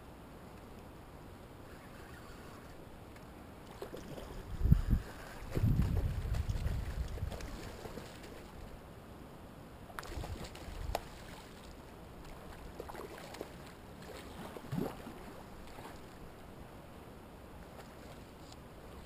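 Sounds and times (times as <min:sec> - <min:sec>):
river current running: 0:00.1 - 0:19.0.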